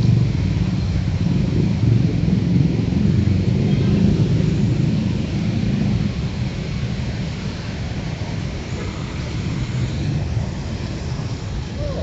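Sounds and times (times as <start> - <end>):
hiss of wet road: 0.0 - 12.0
road traffic rumble: 0.0 - 12.0.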